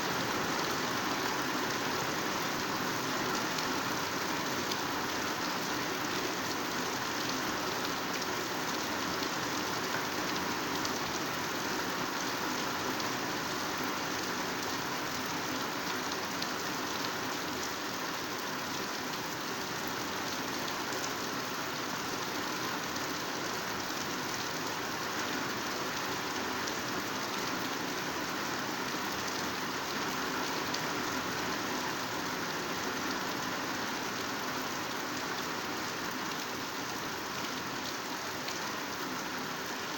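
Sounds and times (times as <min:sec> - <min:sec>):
heavy rain on vegetation: 0:00.0 - 0:39.9.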